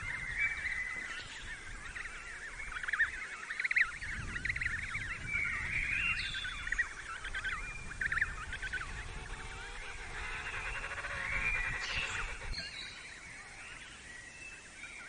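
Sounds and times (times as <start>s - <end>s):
birds squawking: 0.0s - 14.0s
drawn-out bird calls: 0.0s - 14.8s.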